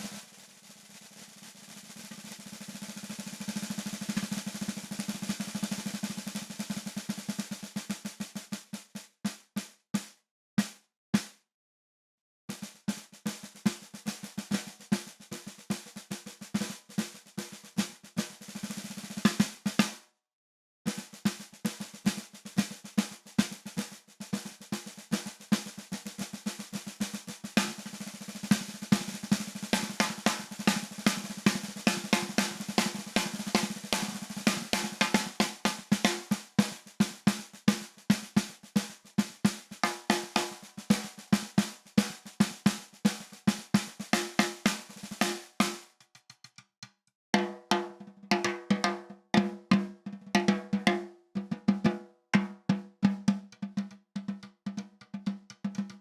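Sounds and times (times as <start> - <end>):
snare drum rolls: 0.0 - 11.4, 12.5 - 20.0, 20.9 - 45.9, 47.4 - 53.2.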